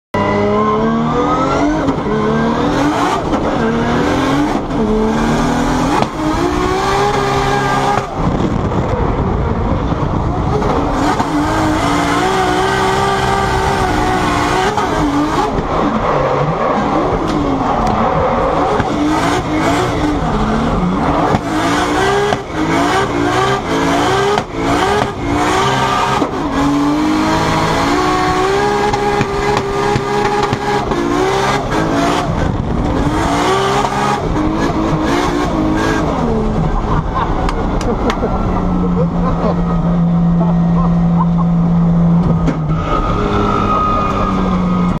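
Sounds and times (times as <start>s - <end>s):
car engine revving: 0.1s - 45.0s.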